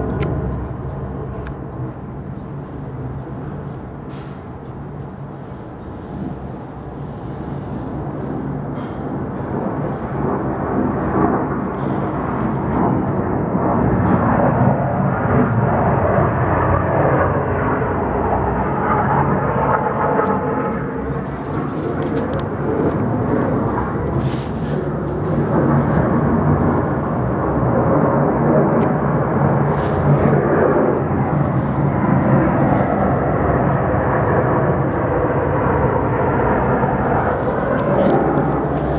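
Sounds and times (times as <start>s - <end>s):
heavy machinery engine rumble: 0.0s - 16.6s, 17.9s - 38.9s.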